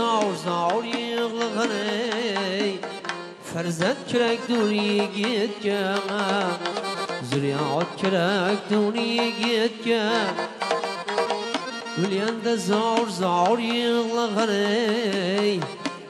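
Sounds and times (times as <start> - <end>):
person singing: 0.0 - 10.8, 11.9 - 16.0
ornamented folk melody: 0.0 - 16.0
regular drum beat: 0.0 - 16.0.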